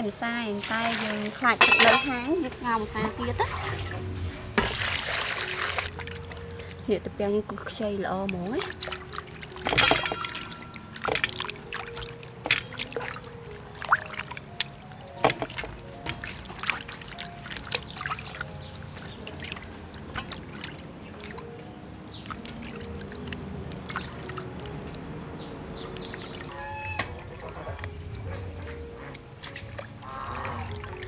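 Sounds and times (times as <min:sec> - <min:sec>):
water splashing in a steel basin: 0:00.0 - 0:31.0.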